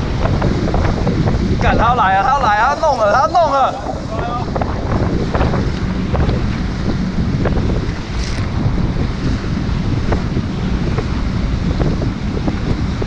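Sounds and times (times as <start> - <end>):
water splashing: 0.0 - 13.0
wind buffeting microphone: 0.0 - 13.0.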